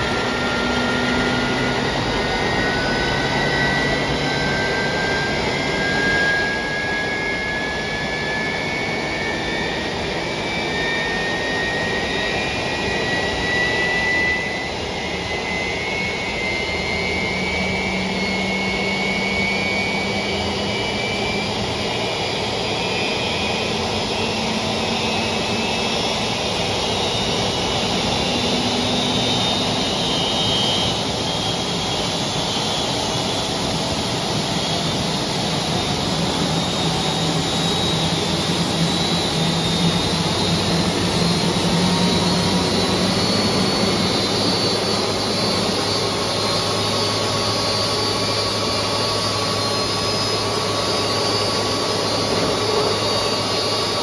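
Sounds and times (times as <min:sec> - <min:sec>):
jet engine roar: 0:00.0 - 0:54.0
jet engine whine rising: 0:00.0 - 0:54.0.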